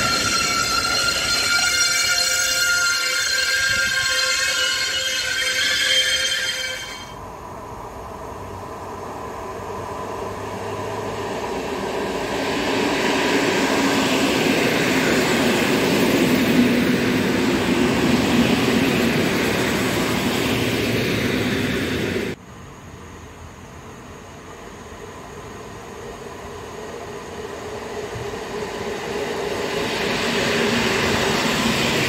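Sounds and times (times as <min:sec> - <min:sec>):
train wheels on rails passing: 0:00.0 - 0:32.0.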